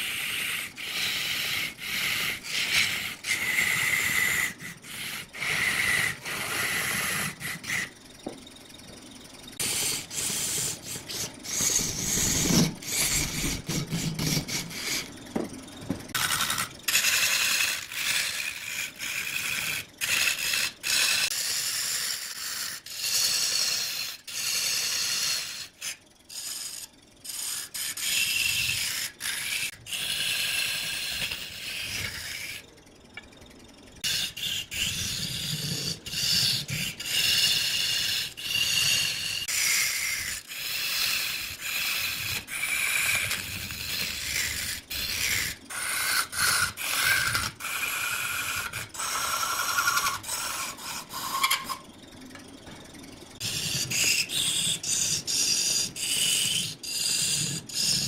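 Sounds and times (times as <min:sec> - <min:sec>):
lathe tool shaving wood: 0:00.0 - 0:08.0, 0:09.6 - 0:15.2, 0:16.1 - 0:32.7, 0:34.0 - 0:51.8, 0:53.4 - 0:58.0.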